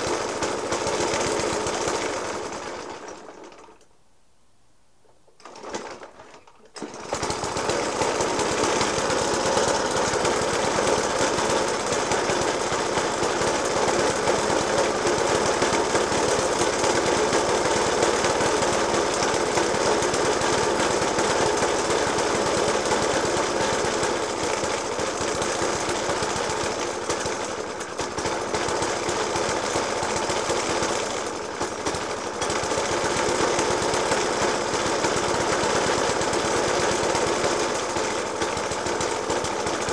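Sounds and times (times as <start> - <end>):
mower engine idling roughly: 0.0 - 3.8, 5.4 - 39.9.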